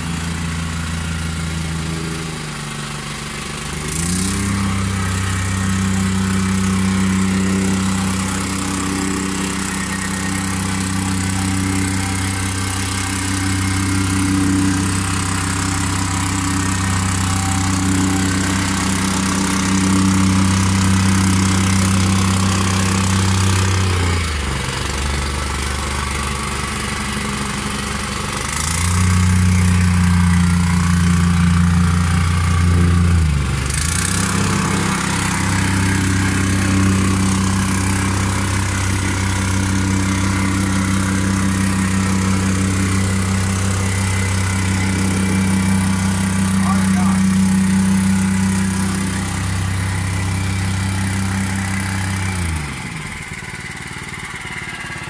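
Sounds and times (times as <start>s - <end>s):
plate compactor engine running: 0.0s - 55.0s.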